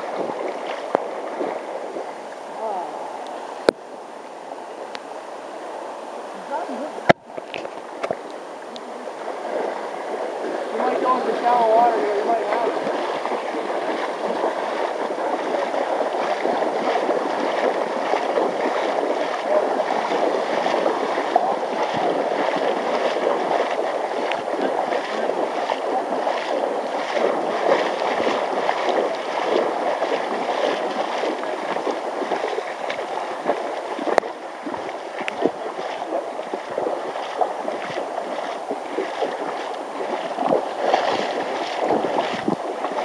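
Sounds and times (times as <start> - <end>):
water splashing around wading legs: 0.0 - 3.9, 6.5 - 43.0
rushing river riffle: 0.0 - 43.0.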